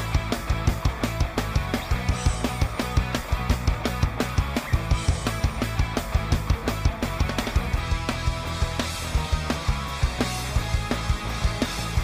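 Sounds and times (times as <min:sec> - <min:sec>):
fast drum beat: 0:00.0 - 0:12.0.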